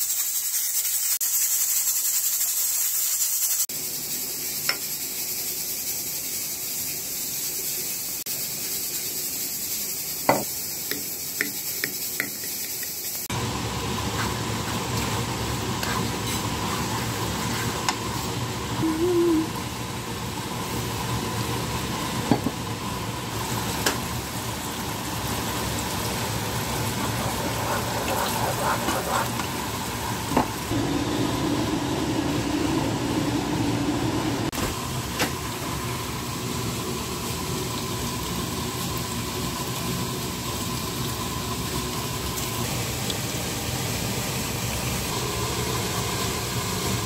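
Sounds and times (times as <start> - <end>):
mixture simmering in a wok: 0.1 - 47.0.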